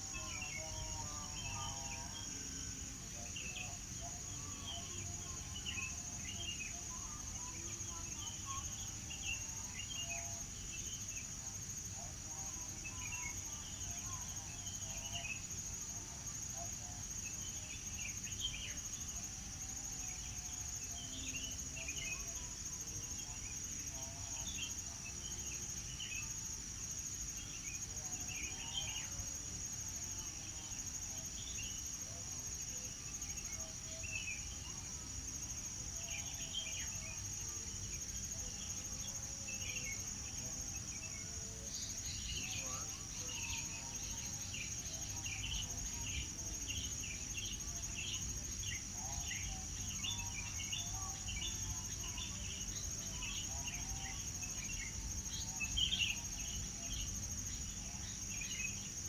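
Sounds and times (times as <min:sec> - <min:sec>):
high-pitched insect trill: 0:00.0 - 0:59.0.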